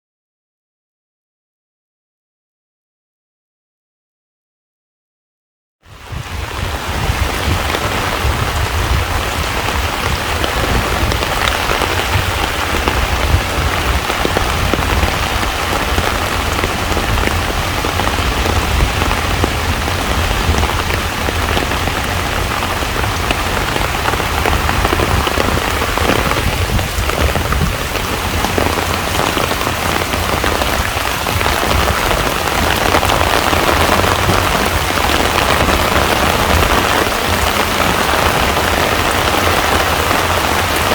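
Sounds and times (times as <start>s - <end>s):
heavy rain on water: 5.8s - 40.9s.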